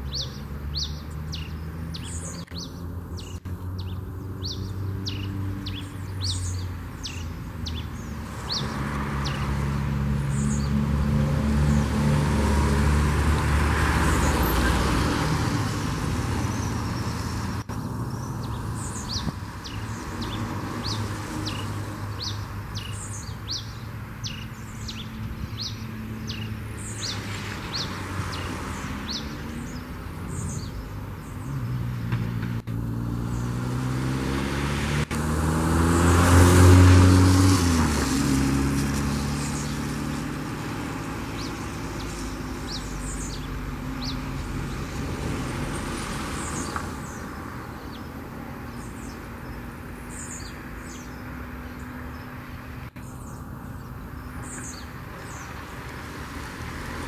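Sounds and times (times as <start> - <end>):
passing motor vehicles: 0.0 - 57.0.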